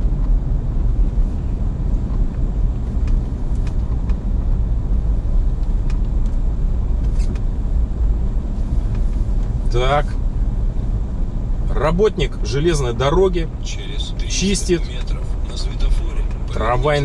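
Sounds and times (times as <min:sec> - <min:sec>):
car driving on snowy road: 0:00.0 - 0:17.0.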